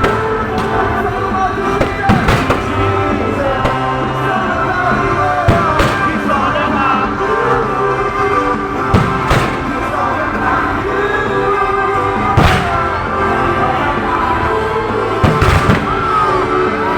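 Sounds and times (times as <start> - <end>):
fireworks bangs: 0.0 - 16.9
loud music: 0.0 - 16.9.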